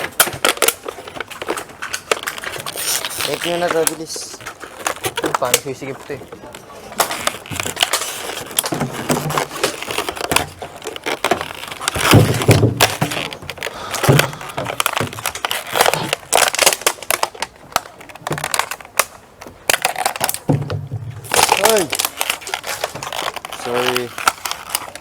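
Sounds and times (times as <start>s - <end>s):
plastic crackling and crunching: 0.0s - 25.0s.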